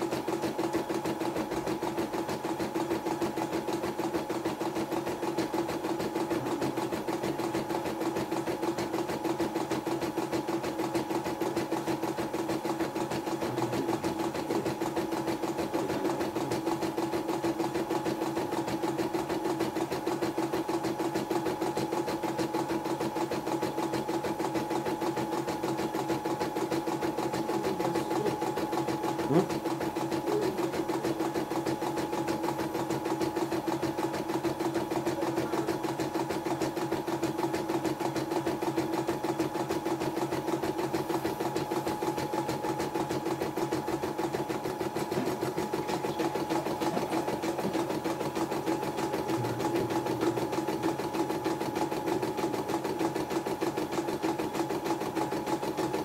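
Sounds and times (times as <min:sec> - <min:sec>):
embroidery machine stitching: 0:00.0 - 0:56.0.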